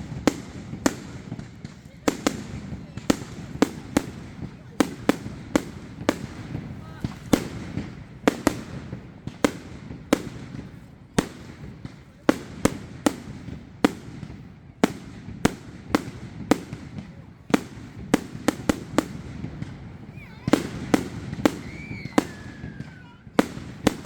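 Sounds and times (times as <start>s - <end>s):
distant fireworks rumble and crackle: 0.0s - 24.0s
fireworks bangs: 0.0s - 24.0s.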